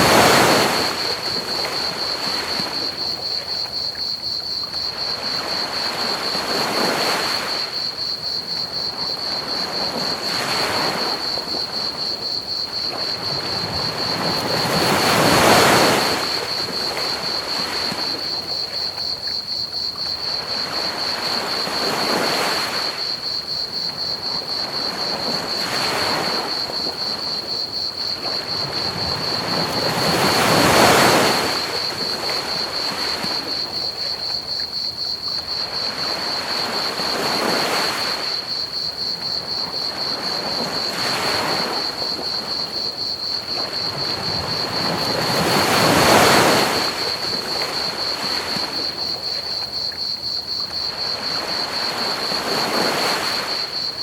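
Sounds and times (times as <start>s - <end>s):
ocean waves breaking on beach: 0.0s - 3.8s, 4.8s - 18.6s, 23.8s - 34.4s, 35.4s - 49.7s, 50.6s - 54.0s
crickets chirping: 0.0s - 54.0s.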